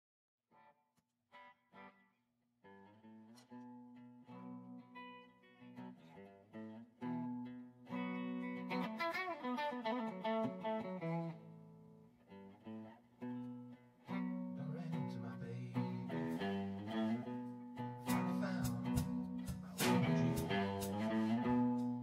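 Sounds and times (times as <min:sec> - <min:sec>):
electric guitar playing blues: 0:01.4 - 0:22.0.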